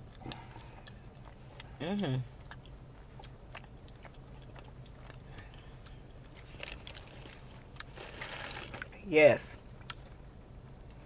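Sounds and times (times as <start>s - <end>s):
person chewing food: 0.0s - 8.9s.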